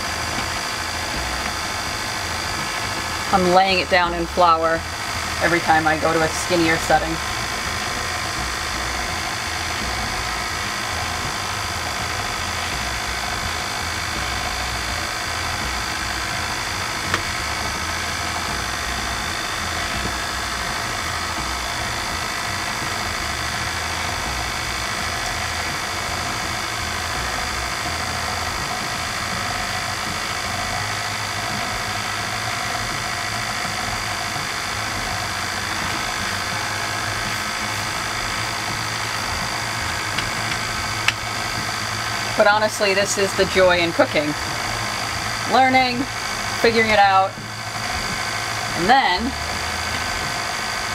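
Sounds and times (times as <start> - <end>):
stand mixer motor running: 0.0 - 50.9.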